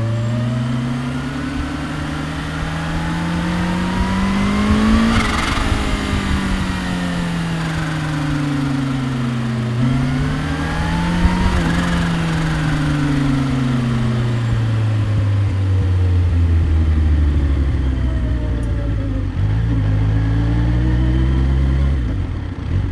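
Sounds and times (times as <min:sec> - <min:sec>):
motorcycle engine and exhaust: 0:00.0 - 0:22.9.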